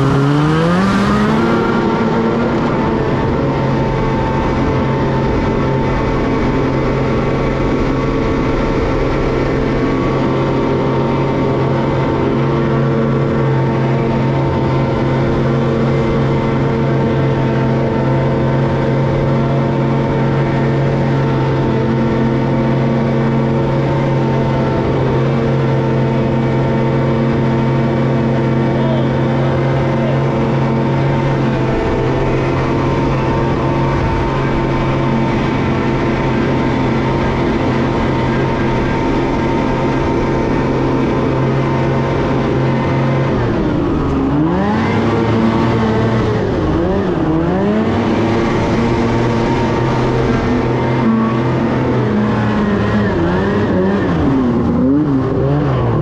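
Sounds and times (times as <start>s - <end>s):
snowmobile engine at high throttle: 0.0s - 56.0s.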